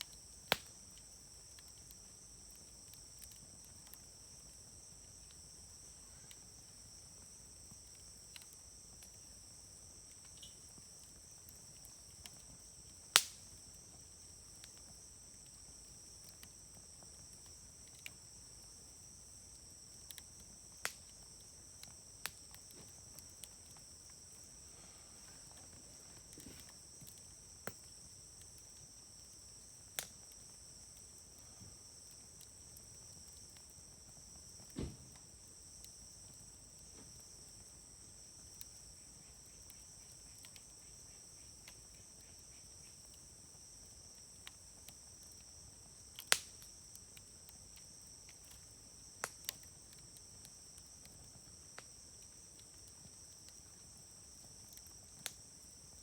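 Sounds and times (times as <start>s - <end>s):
campfire crackling and popping: 0.0s - 36.8s, 43.0s - 56.0s
insects trilling: 0.1s - 56.0s.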